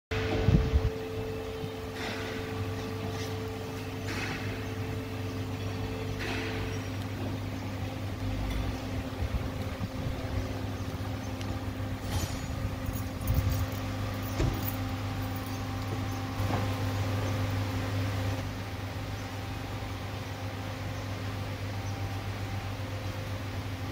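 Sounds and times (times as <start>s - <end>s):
low machine hum: 0.1s - 23.9s.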